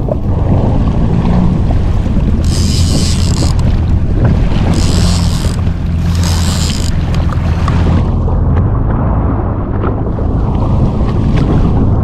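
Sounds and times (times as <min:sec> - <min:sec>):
jet ski engine running: 0:00.0 - 0:12.0
sea wash: 0:00.0 - 0:12.0
wind buffeting microphone: 0:00.0 - 0:12.0.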